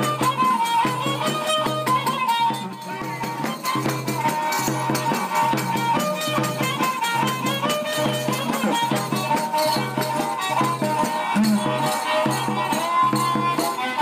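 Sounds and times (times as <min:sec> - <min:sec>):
held melody: 0:00.0 - 0:14.0.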